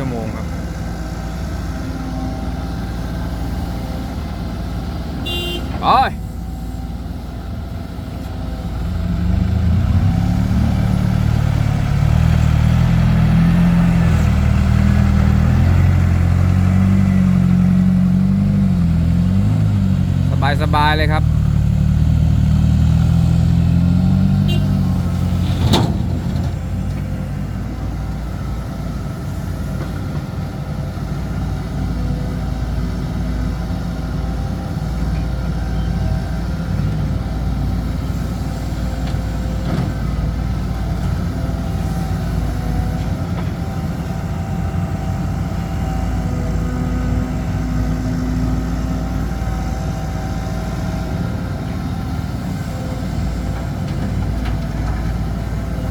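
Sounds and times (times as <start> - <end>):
diesel truck engine drone: 0.0 - 55.9.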